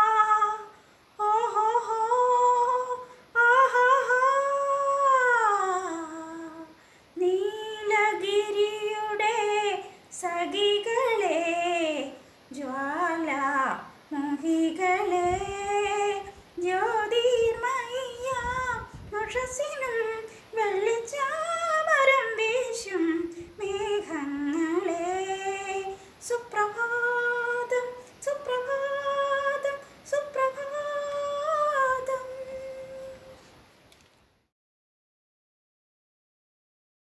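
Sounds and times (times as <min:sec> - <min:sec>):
woman singing unaccompanied: 0:00.0 - 0:33.4.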